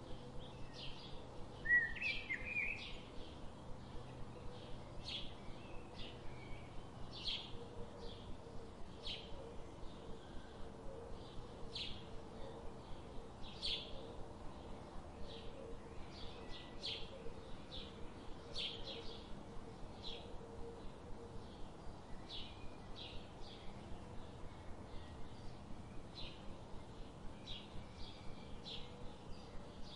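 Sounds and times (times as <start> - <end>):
faint background noise: 0.0 - 29.9.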